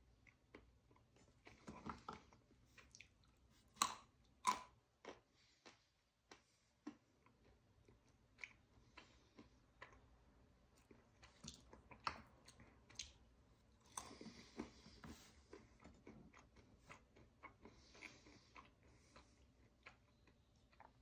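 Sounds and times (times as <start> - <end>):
person chewing crunchy nuts: 0.2 - 21.0.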